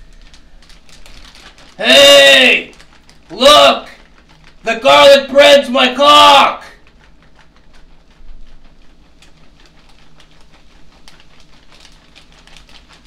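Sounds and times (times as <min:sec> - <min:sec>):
packaging bag crinkling: 0:00.0 - 0:06.0, 0:06.7 - 0:13.0.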